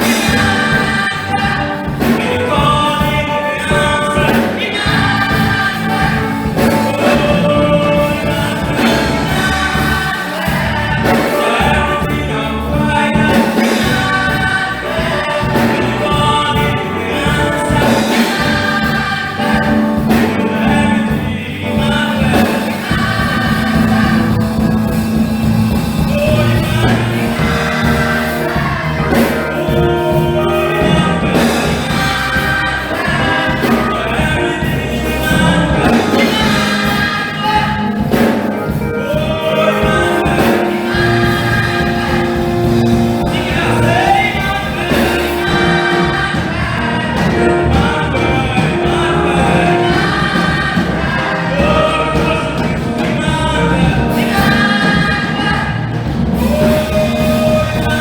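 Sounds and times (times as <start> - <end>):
choir singing: 0.0 - 58.0
instrumental accompaniment: 0.0 - 58.0
low bass notes: 0.0 - 58.0.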